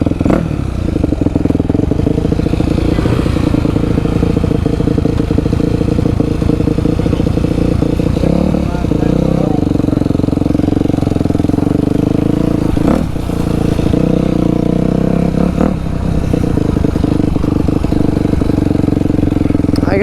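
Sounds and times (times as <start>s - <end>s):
dirt bike engine running hard: 0.0s - 20.0s.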